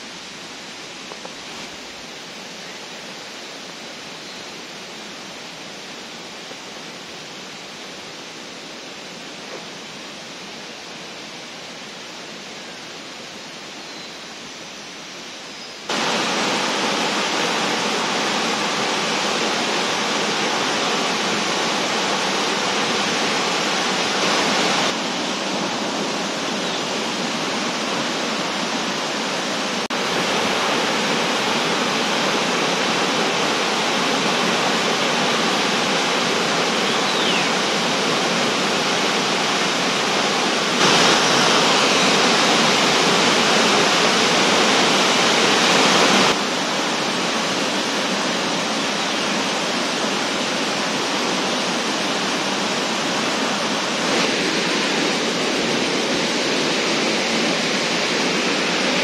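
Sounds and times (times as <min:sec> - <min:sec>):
faint steady hiss: 0:00.0 - 0:59.0
waterfall rushing: 0:00.0 - 0:59.0.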